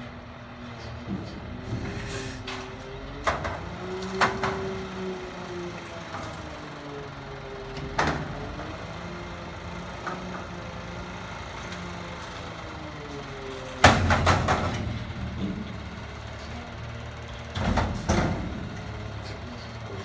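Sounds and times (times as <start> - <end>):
garbage truck hydraulic hum: 0.2 - 20.0.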